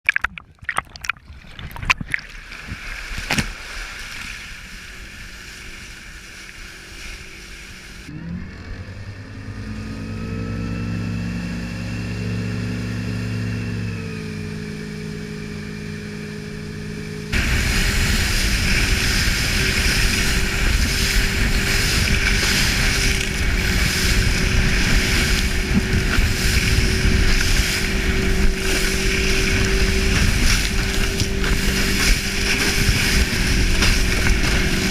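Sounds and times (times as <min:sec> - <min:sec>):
wind and water rushing: 0:00.1 - 0:08.3, 0:09.1 - 0:34.9
motorboat engine: 0:00.6 - 0:34.9.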